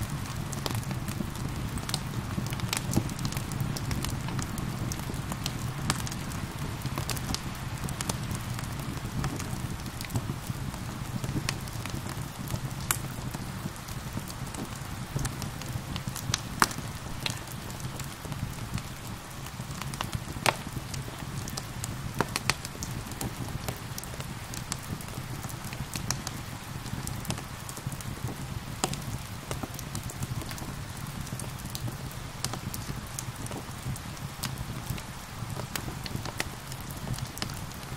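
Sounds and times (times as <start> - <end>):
gentle rain patter: 0.0 - 37.9
wood fire crackling: 0.0 - 37.9.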